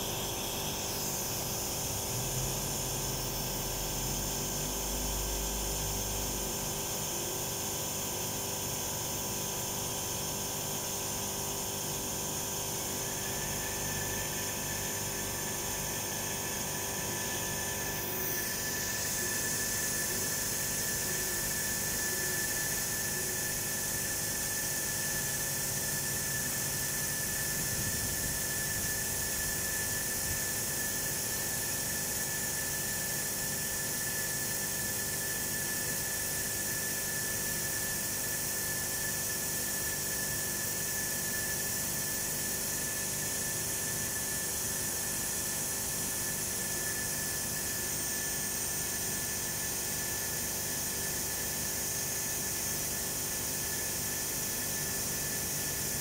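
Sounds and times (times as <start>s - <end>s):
high-pitched machine whine: 0.0s - 56.0s.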